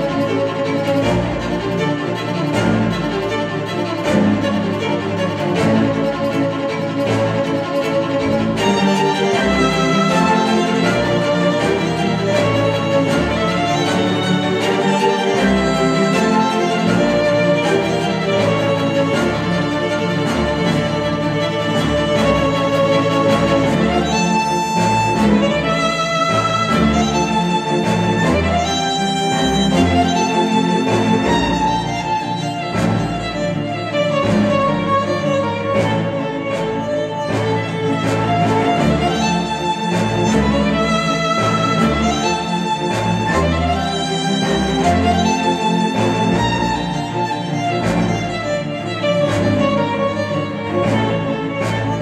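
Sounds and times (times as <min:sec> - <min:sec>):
instrumental music with strings: 0:00.0 - 0:52.0.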